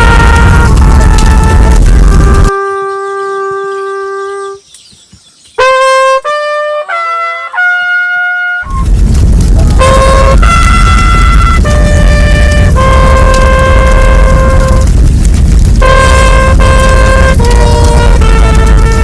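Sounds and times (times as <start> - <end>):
many horns sounding together: 0.0 - 4.6, 5.6 - 8.8, 9.6 - 15.0, 15.8 - 19.0
trumpet-like horn playing: 0.0 - 4.6, 5.6 - 8.9, 9.6 - 15.1, 15.7 - 19.0.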